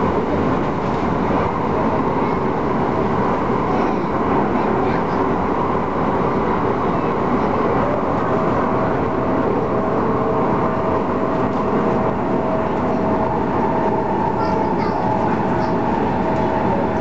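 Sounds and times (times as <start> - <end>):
faint steady tone from train: 0.0 - 17.0
train wheels rumbling on rail: 0.0 - 17.0.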